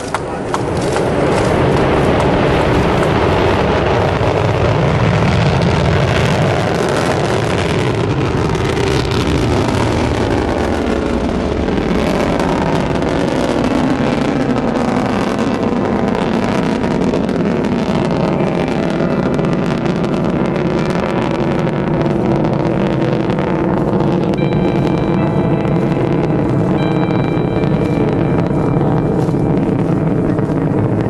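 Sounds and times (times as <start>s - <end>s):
rocket engines roaring: 0.0s - 31.0s.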